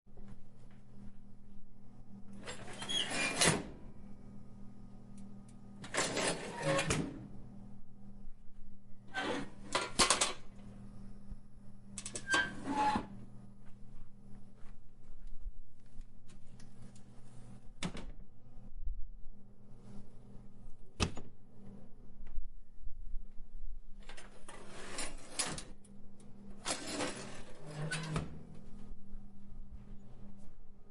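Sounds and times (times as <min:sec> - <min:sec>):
faint steady hum: 0:00.1 - 0:03.0, 0:03.6 - 0:30.9.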